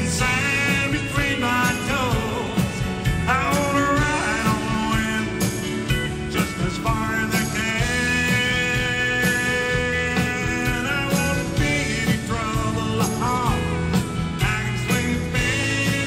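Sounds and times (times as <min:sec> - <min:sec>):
acoustic guitar: 0:00.0 - 0:16.0
country-rock band playing: 0:00.0 - 0:16.0
man singing: 0:00.0 - 0:16.0.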